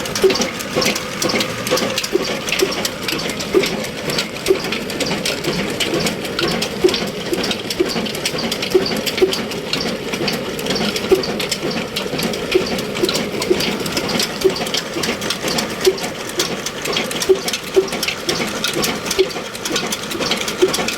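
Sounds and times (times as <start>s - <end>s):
diesel engine clattering: 0.0s - 20.9s
engine knocks: 0.0s - 20.9s.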